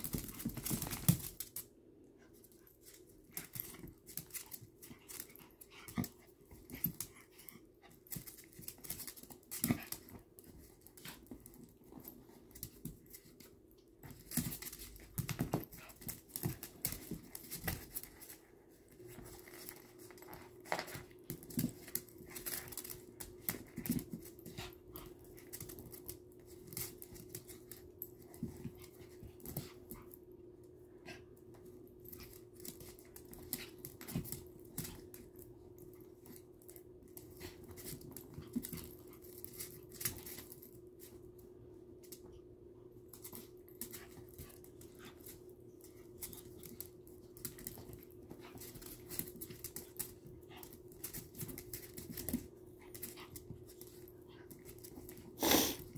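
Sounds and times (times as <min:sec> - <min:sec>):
dog claws clicking on floor: 0:00.0 - 0:30.2, 0:31.1 - 0:41.4, 0:43.1 - 0:55.9.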